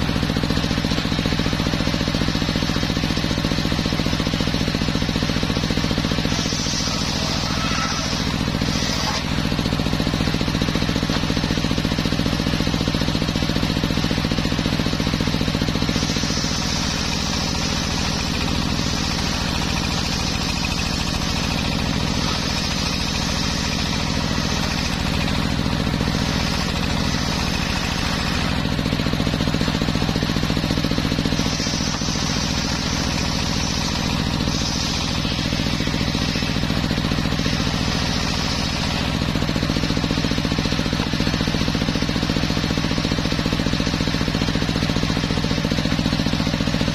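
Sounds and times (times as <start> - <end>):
circular sawmill droning: 0.0 - 46.9
saw blade hissing through wood: 1.0 - 12.4, 13.9 - 42.7.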